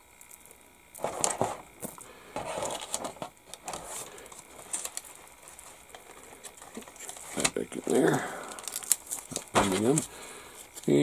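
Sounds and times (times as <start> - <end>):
plastic bag crinkling: 0.2 - 11.0.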